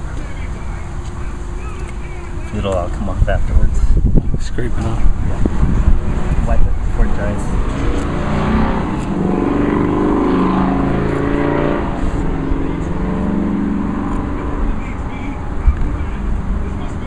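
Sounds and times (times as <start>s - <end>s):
motor engine humming: 0.0s - 17.0s.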